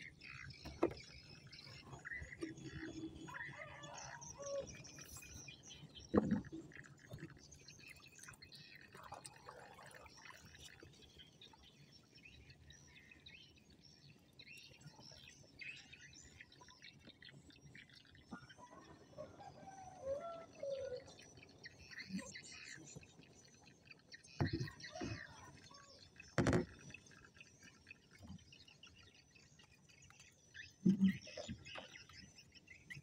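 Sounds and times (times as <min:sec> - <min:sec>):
faint birds chirping: 0:00.0 - 0:33.0.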